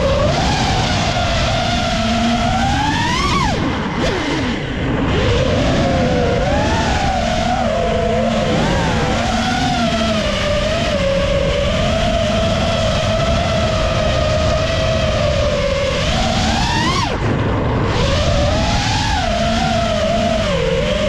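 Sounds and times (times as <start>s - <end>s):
drone motors buzzing whine: 0.0s - 21.0s.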